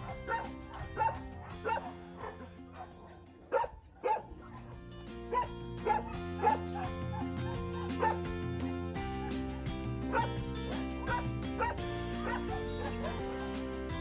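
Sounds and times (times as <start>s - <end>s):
background music chords: 0.0s - 3.5s, 4.1s - 14.0s.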